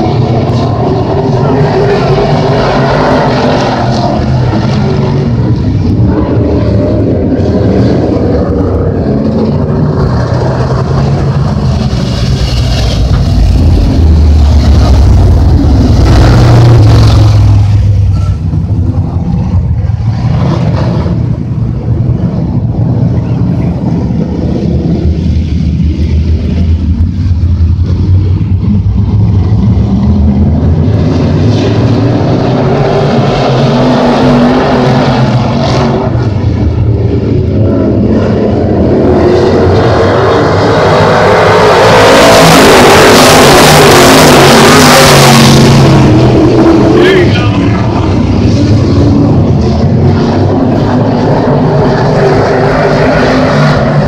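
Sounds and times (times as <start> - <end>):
race car engines rumbling: 0.0 - 54.0.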